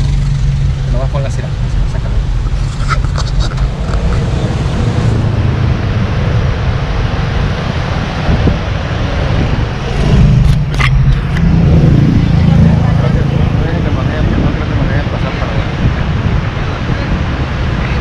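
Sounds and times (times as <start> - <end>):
loud rushing noise: 0.0 - 18.0
vehicle engine hum: 0.0 - 18.0.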